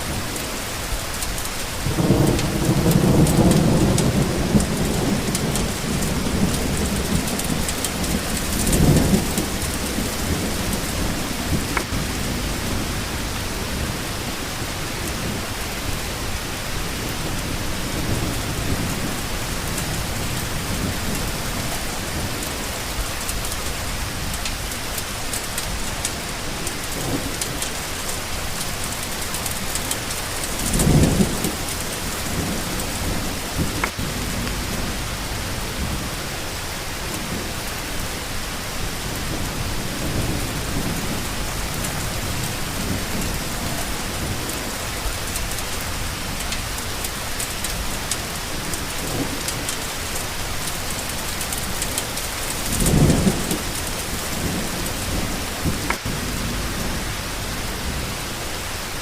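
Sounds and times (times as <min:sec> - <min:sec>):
steady rain falling: 0:00.0 - 0:59.0
thunder rumbling: 0:01.8 - 0:59.0.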